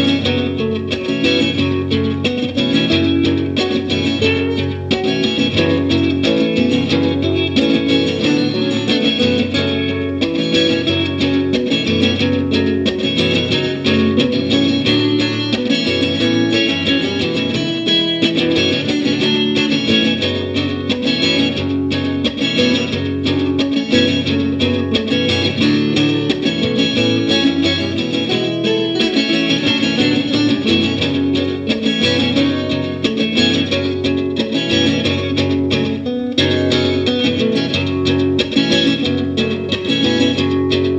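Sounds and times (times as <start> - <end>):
plucked guitar: 0.0 - 40.9.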